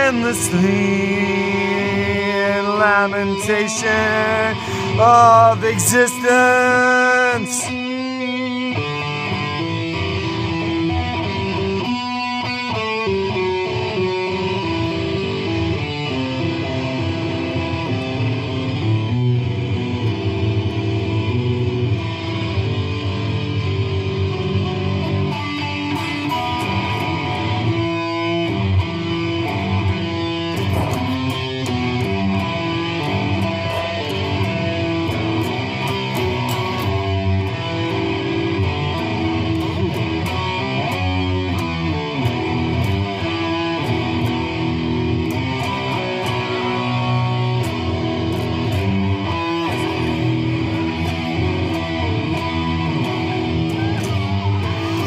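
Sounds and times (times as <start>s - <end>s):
electric guitar chords: 0.0s - 55.0s.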